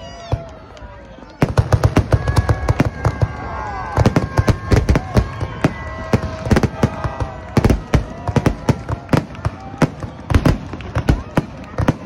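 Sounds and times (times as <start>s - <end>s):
fireworks bursting in sharp bangs: 1.4s - 12.0s.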